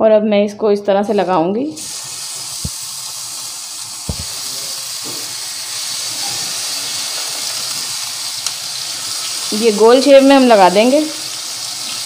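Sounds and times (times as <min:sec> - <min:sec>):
oil sizzling in a frying pan: 0:01.8 - 0:12.0.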